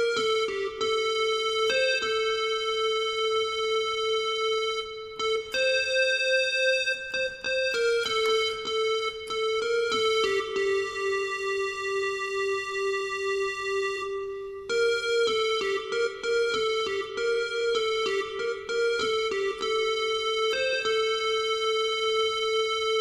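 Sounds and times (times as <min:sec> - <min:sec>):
electronic keyboard melody: 0:00.0 - 0:23.0.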